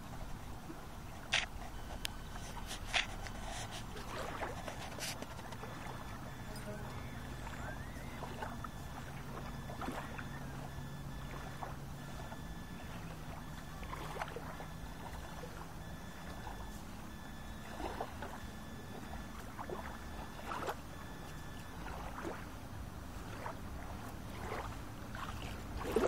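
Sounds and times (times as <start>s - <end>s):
low engine hum: 0.0s - 26.0s
small waves lapping: 0.0s - 26.0s.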